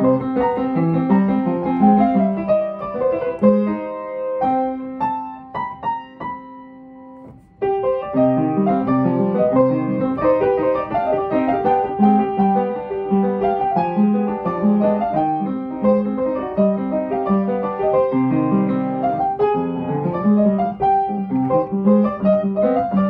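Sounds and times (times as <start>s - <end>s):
solo classical piano: 0.0s - 23.0s.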